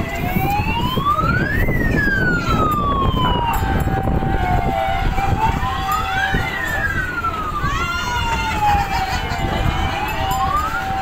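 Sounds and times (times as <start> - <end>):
wailing siren: 0.0 - 11.0.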